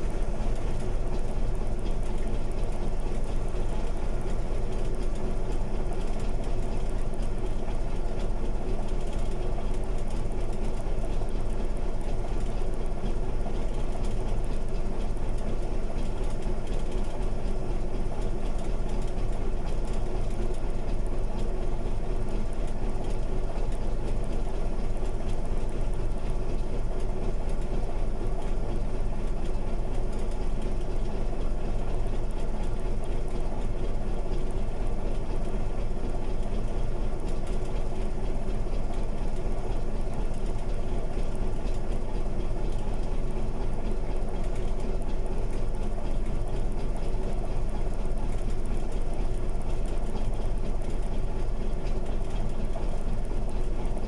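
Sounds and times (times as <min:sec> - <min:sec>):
bulldozer diesel engine idling: 0:00.0 - 0:54.0.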